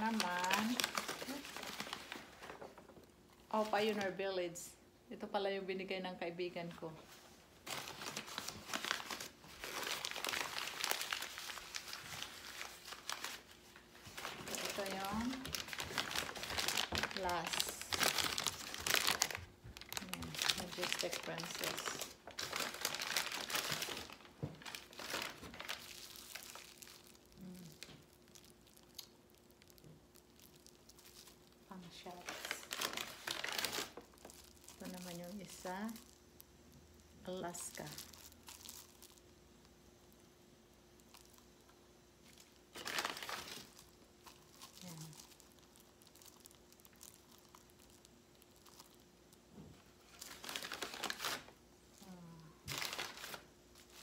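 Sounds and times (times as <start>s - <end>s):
plastic bag crinkling: 0.0s - 4.6s, 7.6s - 39.8s, 40.9s - 54.0s.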